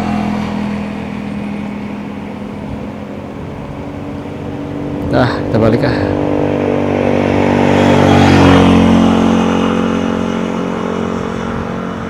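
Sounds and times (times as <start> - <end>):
steady motor hum: 0.0 - 12.0.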